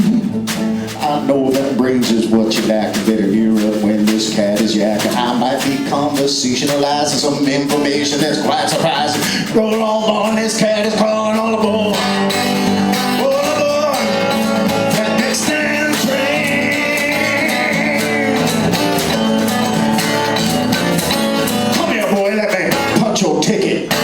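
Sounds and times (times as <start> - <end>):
person singing wordlessly: 0.0 - 20.5, 21.6 - 24.0
acoustic guitar strumming: 0.0 - 24.0.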